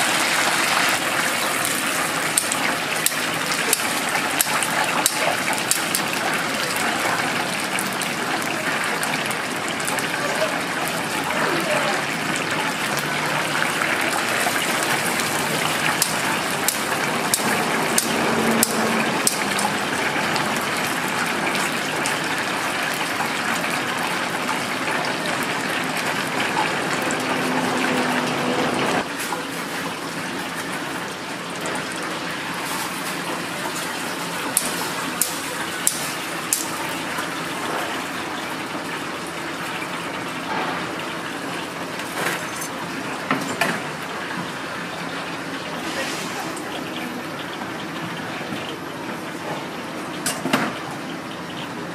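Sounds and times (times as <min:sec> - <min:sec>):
oil sizzling in fryer: 0:00.0 - 0:51.9.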